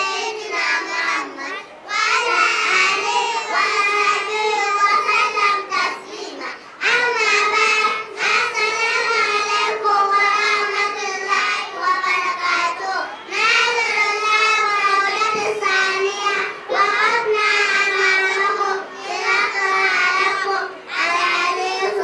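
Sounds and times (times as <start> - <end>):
young children singing: 0.0 - 22.0.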